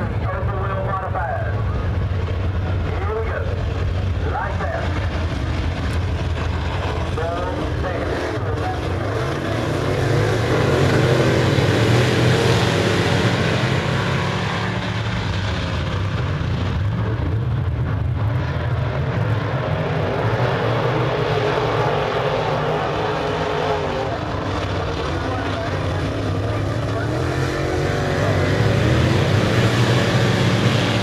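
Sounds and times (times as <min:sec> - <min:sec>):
race car engines at high revs: 0:00.0 - 0:31.0.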